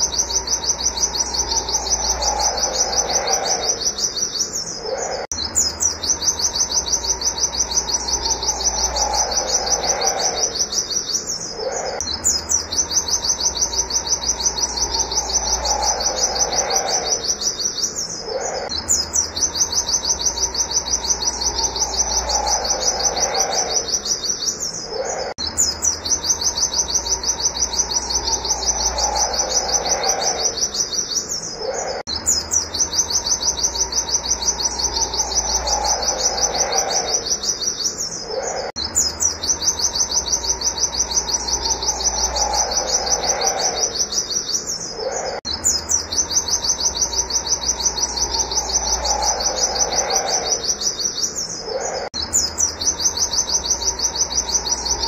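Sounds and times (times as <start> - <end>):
bird singing high sharp notes: 0.0 - 55.0.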